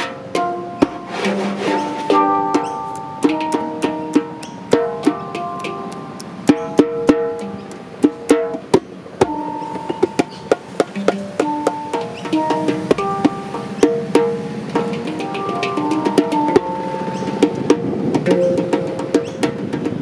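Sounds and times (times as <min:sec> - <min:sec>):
djembe slaps and tones: 0:00.0 - 0:20.0
ringing handpan notes: 0:00.0 - 0:20.0.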